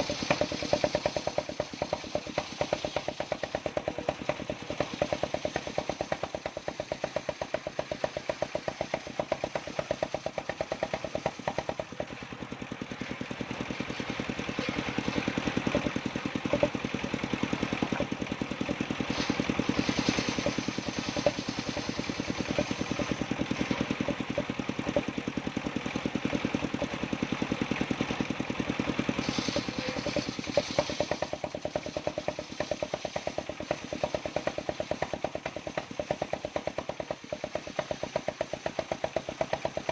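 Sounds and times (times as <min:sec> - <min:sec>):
saw rig engine running: 0:00.0 - 0:39.9.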